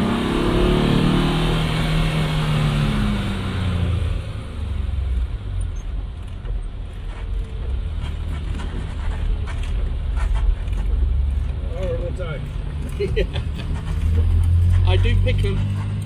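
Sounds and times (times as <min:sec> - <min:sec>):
car engine drone from inside cabin: 0:00.0 - 0:16.0.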